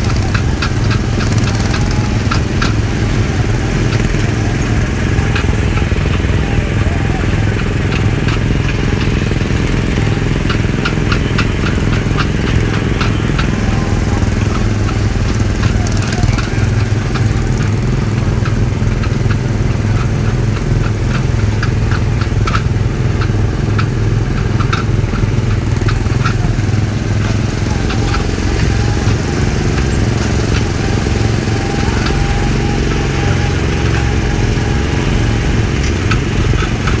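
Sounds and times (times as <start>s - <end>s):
small gasoline engine running: 0.0s - 37.0s.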